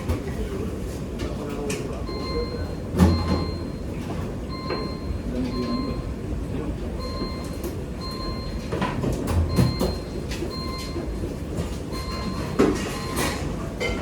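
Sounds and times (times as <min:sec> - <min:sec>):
kitchen rumble and hiss: 0:00.0 - 0:14.0.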